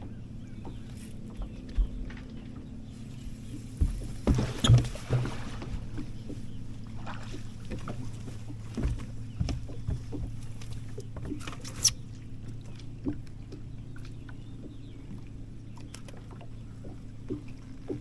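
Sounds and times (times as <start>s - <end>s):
equipment low hum: 0.0s - 18.0s
light clicks and knocks: 0.0s - 18.0s.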